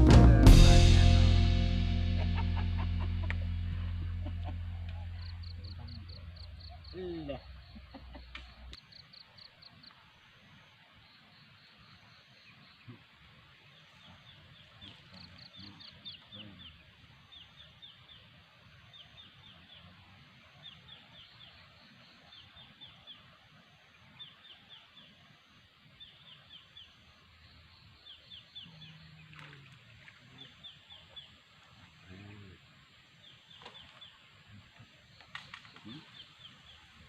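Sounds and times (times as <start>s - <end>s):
faint outdoor ambience: 0.0s - 37.0s.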